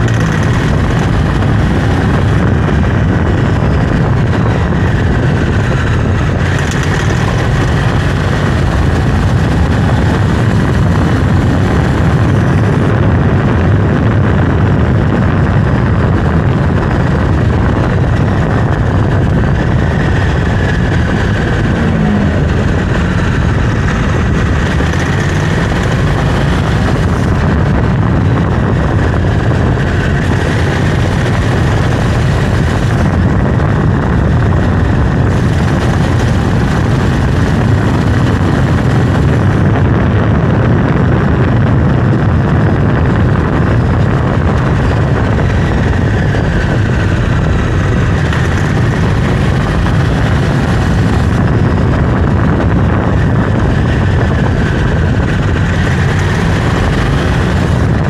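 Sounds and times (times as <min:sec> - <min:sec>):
motorcycle engine running: 0:00.0 - 0:58.0
road and wind rush: 0:00.0 - 0:58.0.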